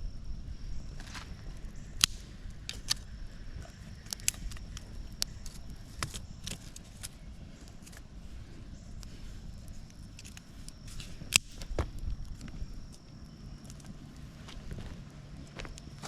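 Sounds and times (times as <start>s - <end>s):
twig fire crackling: 0.0s - 16.0s.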